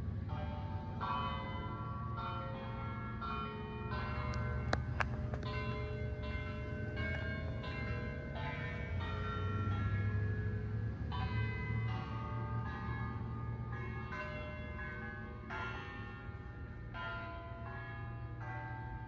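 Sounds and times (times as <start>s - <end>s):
bells ringing: 0.0s - 19.0s.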